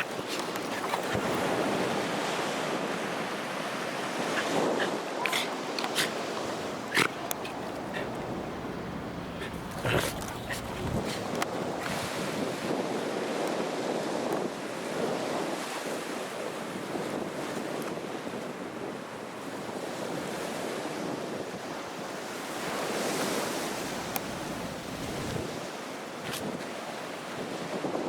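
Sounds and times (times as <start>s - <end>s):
surf washing up a beach: 0.0s - 8.0s, 11.0s - 28.0s
wind on microphone: 0.0s - 21.7s, 22.6s - 28.0s.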